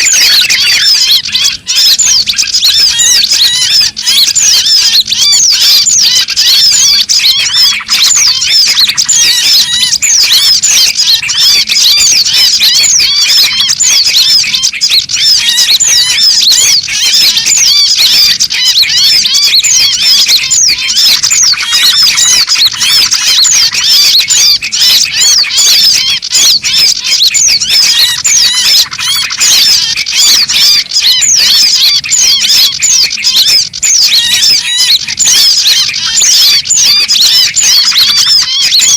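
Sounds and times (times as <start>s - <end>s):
chorus of small songbirds: 0.0s - 38.9s.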